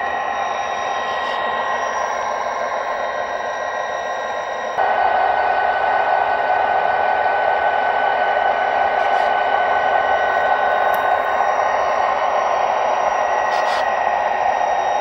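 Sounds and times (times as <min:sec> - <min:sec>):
model locomotives droning: 0:00.0 - 0:15.0.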